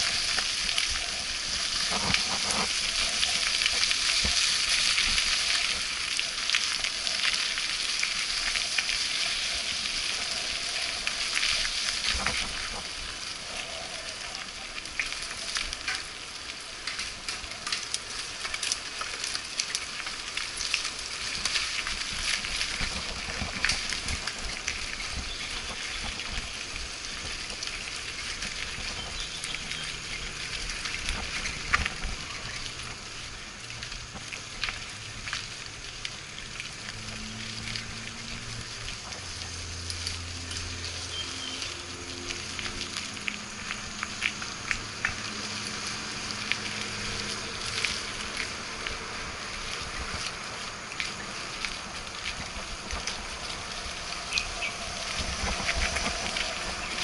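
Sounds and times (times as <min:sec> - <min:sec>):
bike tyres rolling on wet gravel: 0:00.0 - 0:57.0.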